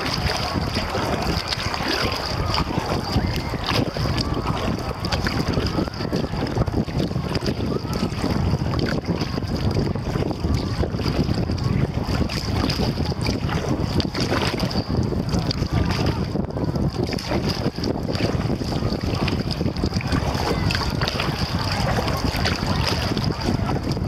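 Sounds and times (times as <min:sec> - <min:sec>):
paddle splashing in water: 0:00.0 - 0:24.0
wind rumbling on microphone: 0:00.0 - 0:24.0.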